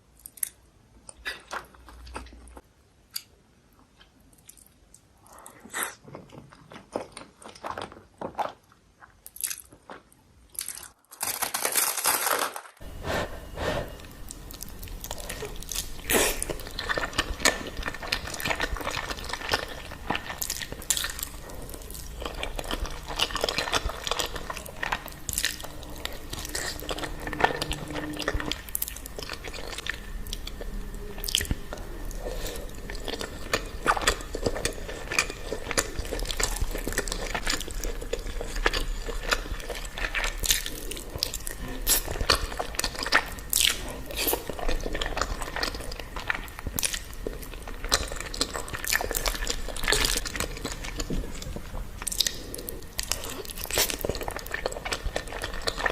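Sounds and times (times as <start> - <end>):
person chewing pasta: 0.2 - 55.9.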